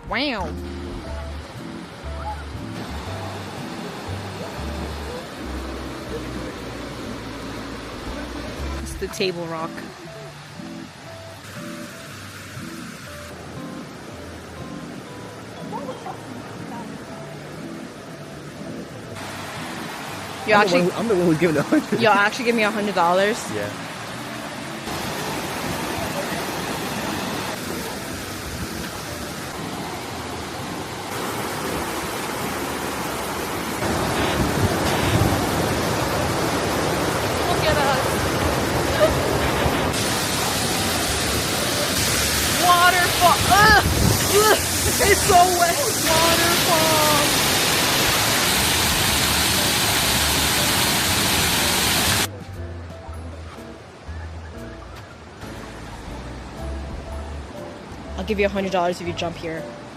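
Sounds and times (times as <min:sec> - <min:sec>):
soft background music: 0:00.0 - 0:59.9
waterfall rushing: 0:00.9 - 0:52.3.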